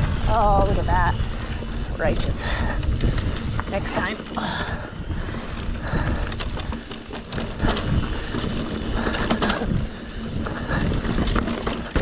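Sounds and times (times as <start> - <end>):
bike clicking and rattling: 0.0 - 12.0
bike tyres rumbling on dirt: 0.0 - 12.0
wind on microphone: 0.0 - 12.0.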